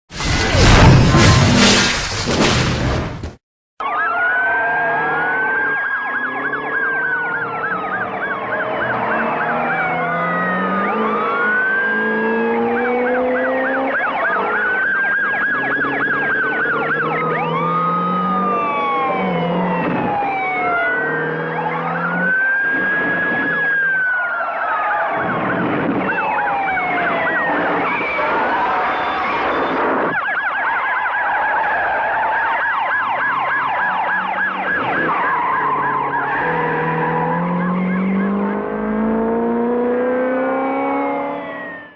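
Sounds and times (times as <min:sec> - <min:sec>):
police sirens wailing and yelping: 0:03.8 - 0:41.9
car engines revving: 0:04.4 - 0:24.2, 0:24.8 - 0:30.2, 0:31.2 - 0:41.9.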